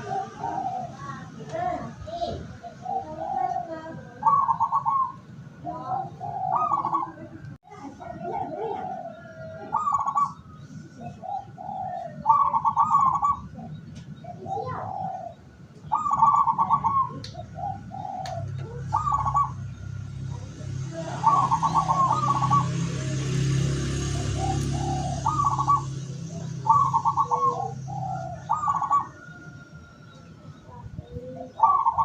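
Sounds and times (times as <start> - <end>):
doves cooing: 0.0 - 32.0.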